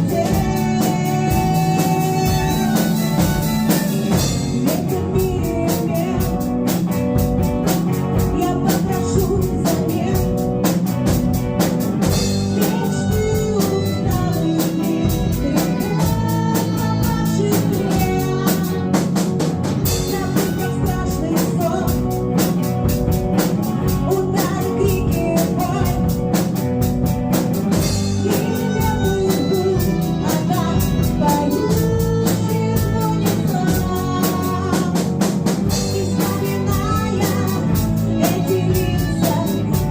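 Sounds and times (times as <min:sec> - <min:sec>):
person singing: 0:00.0 - 0:11.4, 0:12.0 - 0:27.0, 0:27.6 - 0:39.9
drum kit beat: 0:00.0 - 0:39.9
rock band playing: 0:00.0 - 0:39.9.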